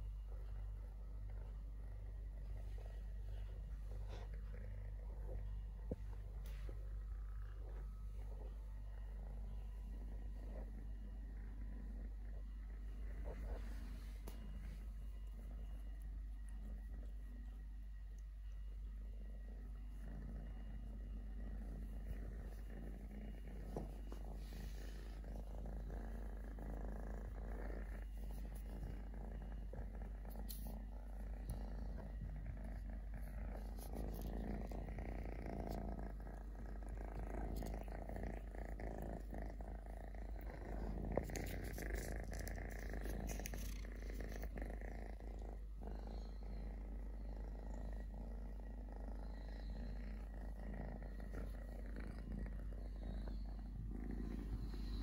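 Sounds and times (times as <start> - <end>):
kitten purring: 0.0 - 55.0.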